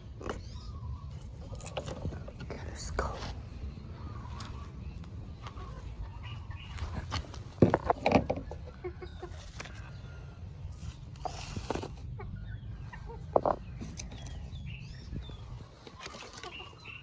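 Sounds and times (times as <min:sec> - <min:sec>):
birds calling: 0:00.0 - 0:17.0
rustles: 0:00.5 - 0:17.0.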